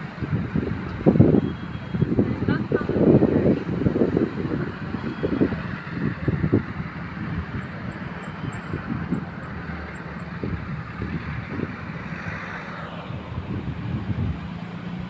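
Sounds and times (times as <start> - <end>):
wind gusts on microphone: 0.0 - 15.0.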